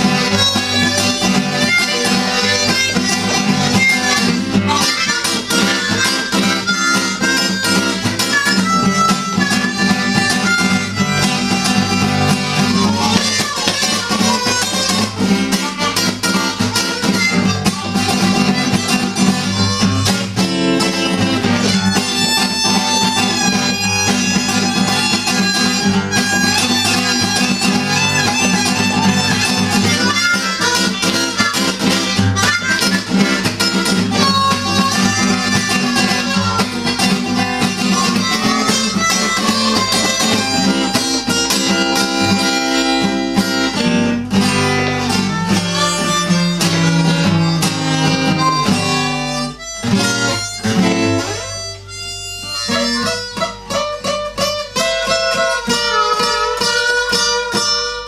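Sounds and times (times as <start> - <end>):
acoustic guitar strumming: 0.0 - 58.0
harmonica playing blues: 0.0 - 58.0.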